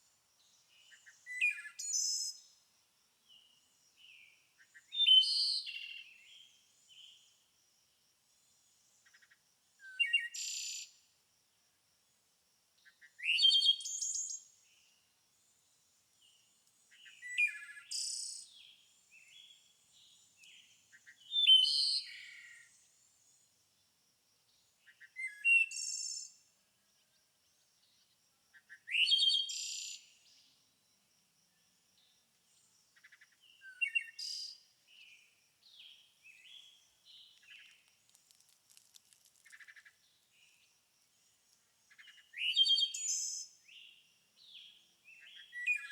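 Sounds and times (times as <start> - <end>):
songbird singing: 0.4 - 7.5, 8.3 - 11.1, 12.8 - 45.9.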